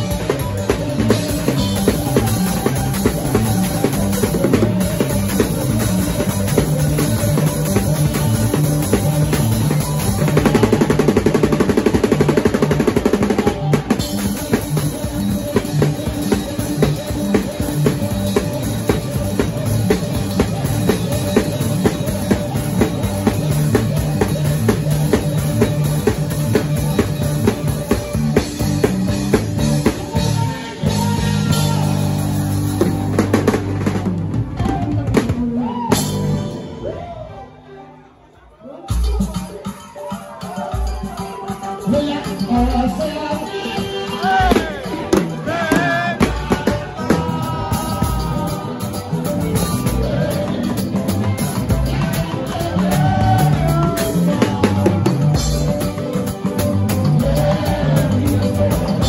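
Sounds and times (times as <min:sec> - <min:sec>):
repeating bass line: 0:00.0 - 0:34.9, 0:44.4 - 0:59.0
drum kit playing: 0:00.0 - 0:37.0, 0:38.9 - 0:59.0.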